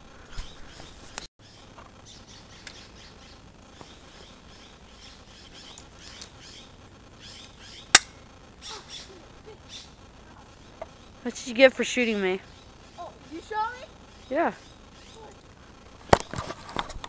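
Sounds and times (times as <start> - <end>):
faint bird chirps: 0.2 - 8.0, 8.6 - 15.4.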